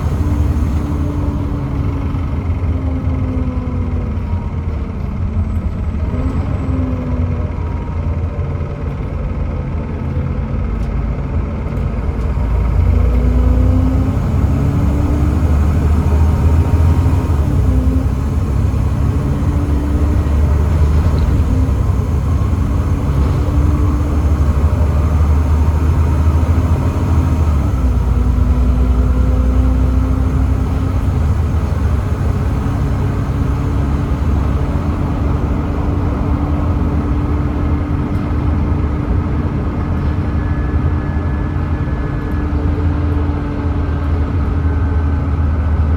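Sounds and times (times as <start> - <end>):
bus diesel engine changing gears: 0.0 - 45.9.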